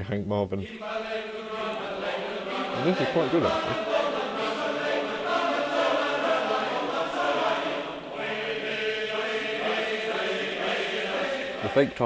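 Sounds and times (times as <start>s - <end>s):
choir singing held chords: 0.6s - 12.0s.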